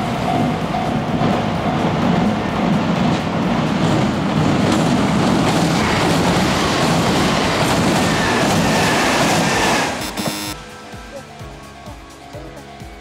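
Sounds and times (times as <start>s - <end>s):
train wheels rumbling on rails: 0.0s - 10.6s.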